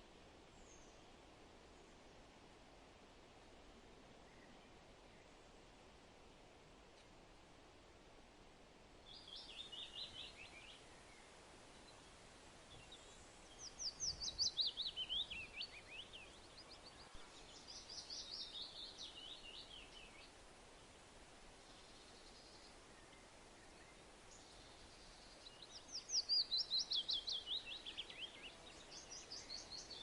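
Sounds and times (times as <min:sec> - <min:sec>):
songbird singing: 0:00.0 - 0:02.4, 0:04.1 - 0:05.7, 0:09.0 - 0:30.0
faint steady hiss: 0:00.0 - 0:30.0.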